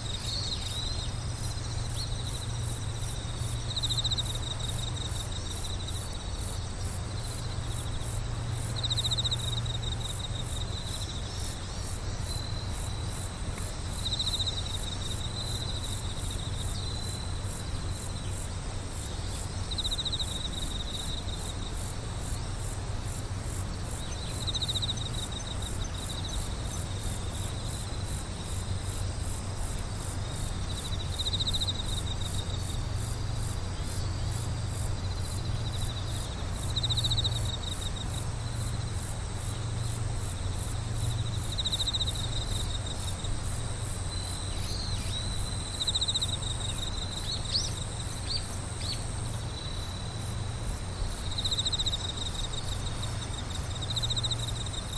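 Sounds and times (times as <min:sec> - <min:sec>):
insect high pulsing trill: 0:00.0 - 0:54.9
insect lower chirping trills: 0:00.0 - 0:54.9.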